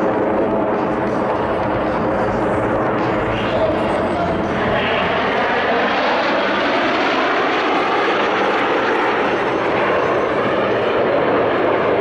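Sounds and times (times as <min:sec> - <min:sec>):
jets flying overhead: 0:00.0 - 0:12.0.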